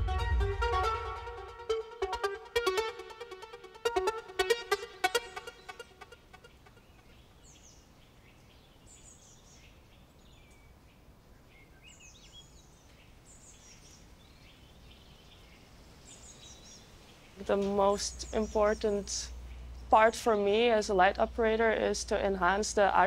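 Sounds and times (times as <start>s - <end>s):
low outdoor background: 0.0s - 23.0s
birds chirping: 3.9s - 23.0s.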